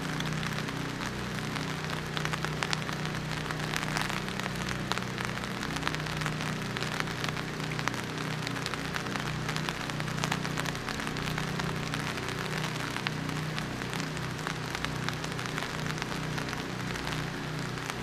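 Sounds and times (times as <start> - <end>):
low steady hum: 0.0 - 18.0
rain falling: 0.0 - 18.0.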